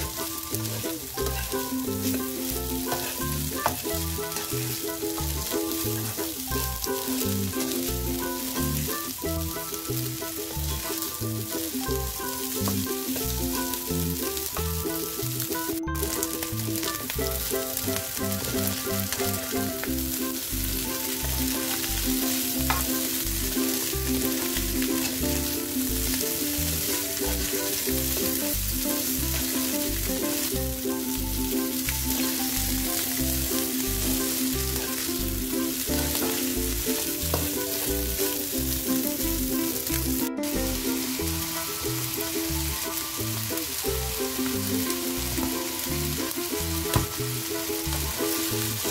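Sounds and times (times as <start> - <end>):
spatula stirring in wok: 0.0 - 39.4
background music with beat: 0.0 - 48.9
rice sizzling in a wok: 0.0 - 48.9.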